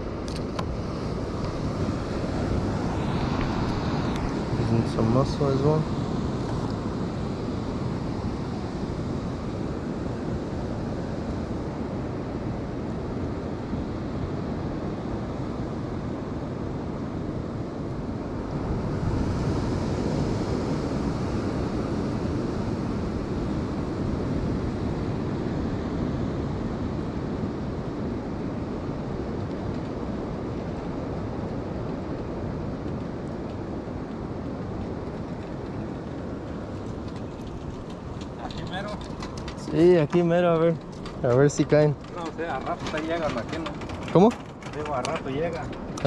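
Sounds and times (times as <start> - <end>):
ocean surf: 0.0 - 41.0
wind on microphone: 0.0 - 46.0.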